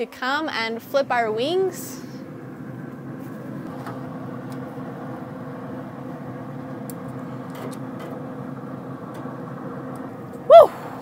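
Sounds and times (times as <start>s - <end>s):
smoker fan humming: 0.0s - 11.0s.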